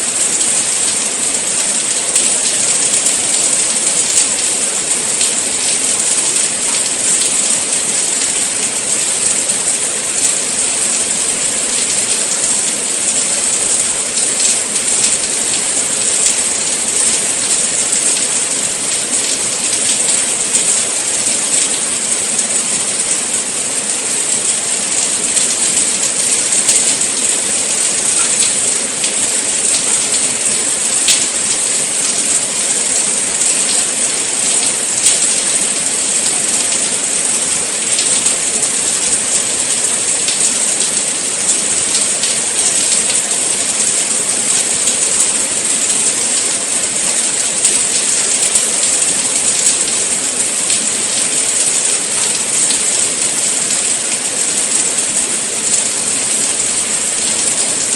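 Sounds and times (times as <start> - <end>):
steady rain hiss: 0.0 - 57.9
ticks of raindrops: 0.0 - 57.9.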